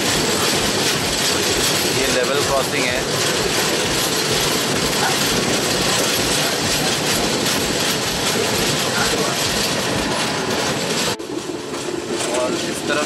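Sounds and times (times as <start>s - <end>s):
low wheel pulses: 0.0s - 13.0s
train running with wind rush: 0.0s - 13.0s.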